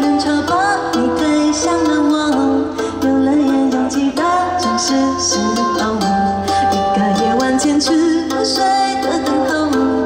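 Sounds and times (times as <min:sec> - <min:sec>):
person singing long notes: 0:00.0 - 0:10.0.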